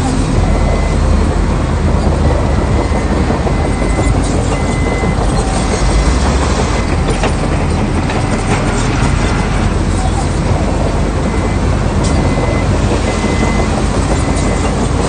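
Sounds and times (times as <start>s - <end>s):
diesel machinery engine rumbling: 0.0s - 15.0s.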